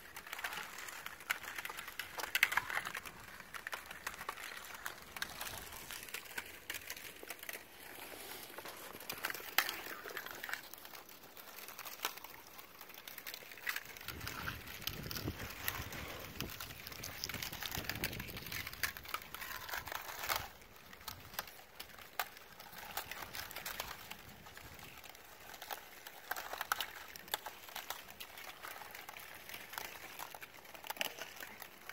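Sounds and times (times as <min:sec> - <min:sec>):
lake ice crackling and clinking: 0:00.0 - 0:31.9.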